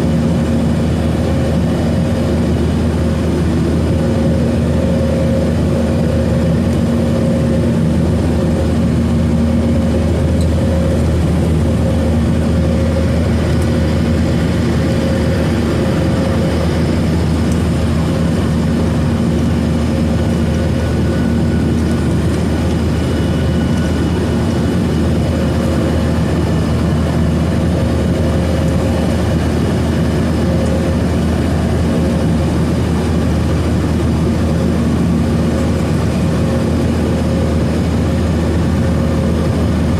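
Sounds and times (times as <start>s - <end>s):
droning engine hum: 0.0s - 39.9s
jet engines running: 0.0s - 39.9s.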